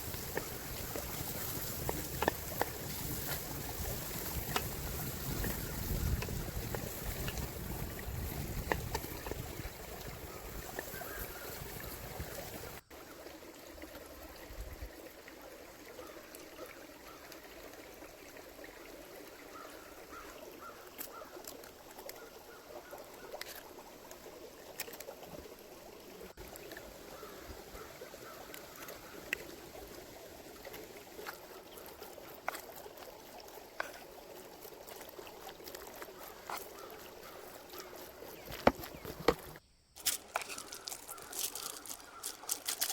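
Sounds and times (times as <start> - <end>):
river water trickling: 0.0 - 42.9.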